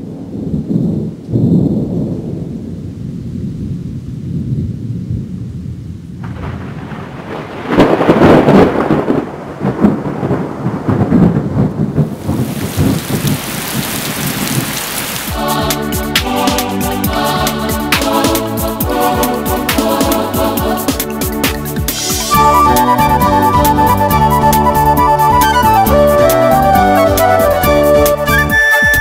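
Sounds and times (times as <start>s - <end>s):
rain: 0.0s - 29.0s
rolling thunder: 0.0s - 29.0s
loud thunderclaps: 0.1s - 26.8s.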